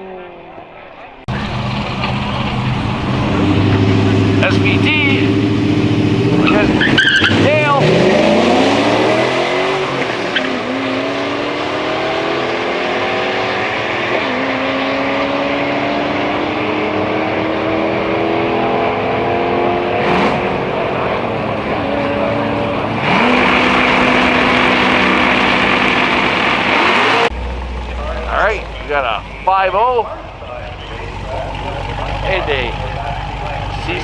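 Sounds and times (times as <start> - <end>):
car engine accelerating hard: 1.3 - 34.0.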